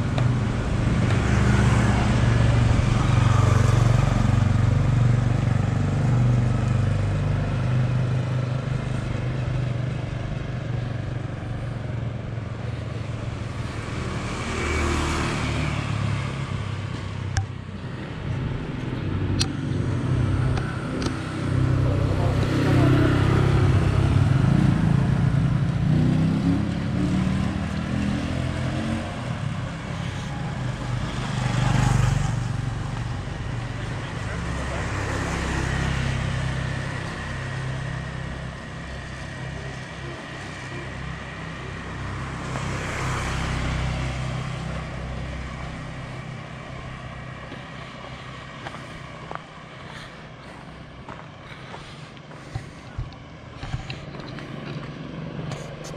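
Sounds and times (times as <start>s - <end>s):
motor scooters passing: 0.0s - 55.9s.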